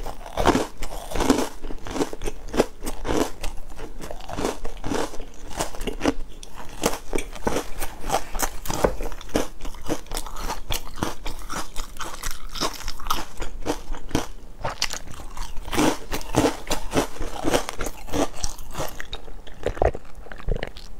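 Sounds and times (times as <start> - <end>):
chewing crisp biscuit: 0.0 - 20.9.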